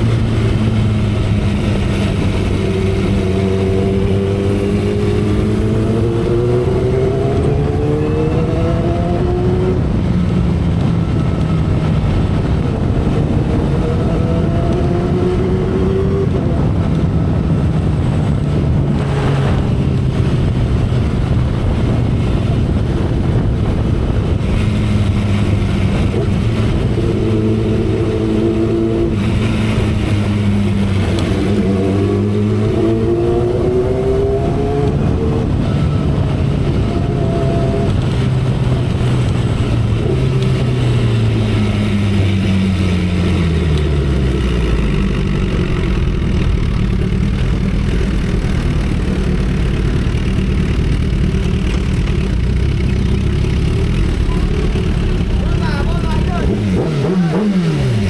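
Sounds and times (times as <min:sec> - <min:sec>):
wind rush: 0:00.0 - 0:52.6
motorcycle engine revving: 0:00.0 - 0:58.0.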